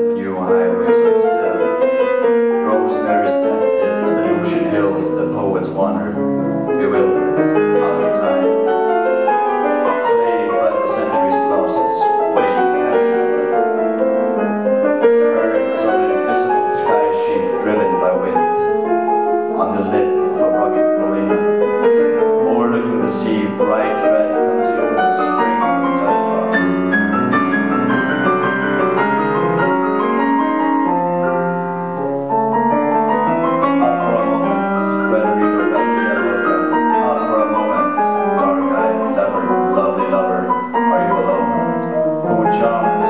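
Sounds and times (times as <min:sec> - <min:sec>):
grand piano playing: 0:00.0 - 0:43.0.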